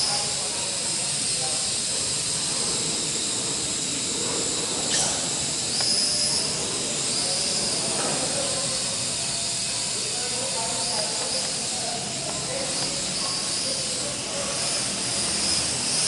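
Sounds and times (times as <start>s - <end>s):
quadcopter propellers whirring: 0.0s - 16.0s.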